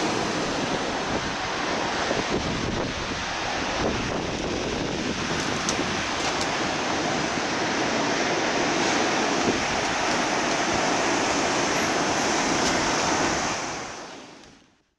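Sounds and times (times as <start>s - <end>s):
wind buffeting microphone: 0.0s - 14.2s
wind rushing: 0.0s - 14.2s
sea surf: 0.0s - 14.8s.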